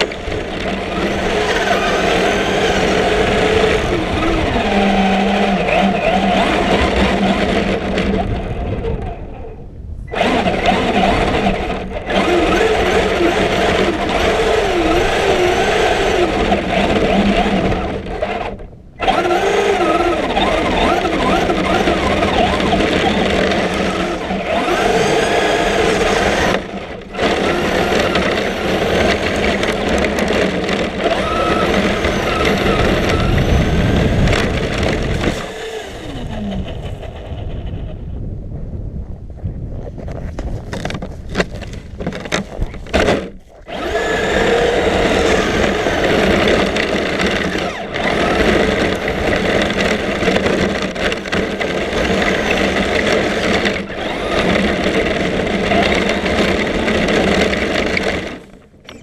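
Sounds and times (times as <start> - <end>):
electric motor and gears whining: 0.0 - 38.1, 40.0 - 59.0.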